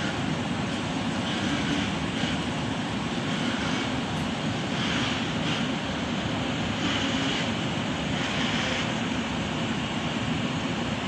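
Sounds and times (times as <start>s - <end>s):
flowing canal water rushing: 0.0s - 11.0s.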